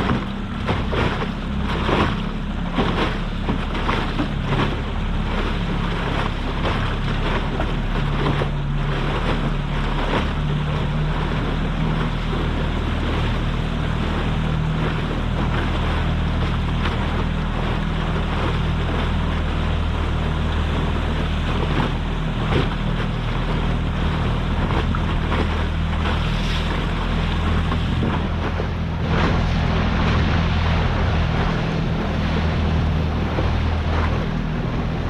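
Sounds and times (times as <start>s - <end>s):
boat motor running: 0.0s - 35.0s
wind and water rushing: 0.0s - 35.0s.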